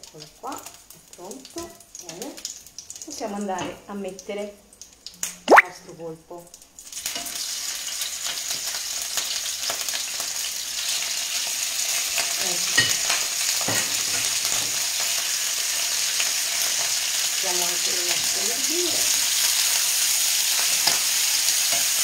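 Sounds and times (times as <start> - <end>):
octopus sizzling in hot oil: 0.0 - 22.0.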